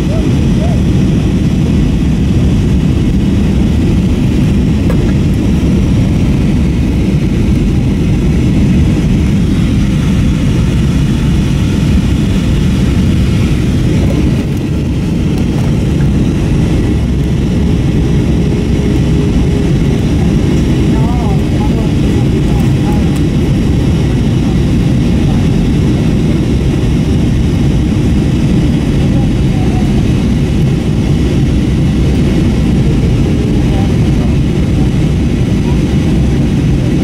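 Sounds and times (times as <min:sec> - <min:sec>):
airplane cabin roar in flight: 0:00.0 - 0:37.0.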